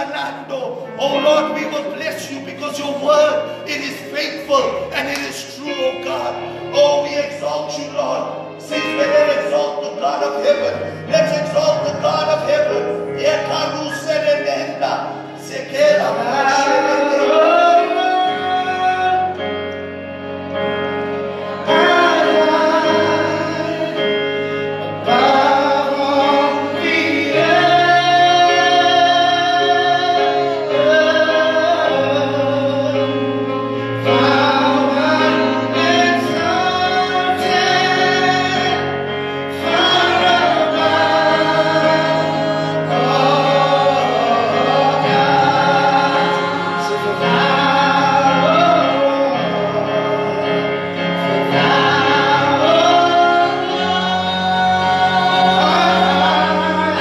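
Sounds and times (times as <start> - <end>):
voices singing: 0.0 - 19.4, 21.0 - 33.3, 34.0 - 57.0
sustained keyboard chords: 0.0 - 57.0.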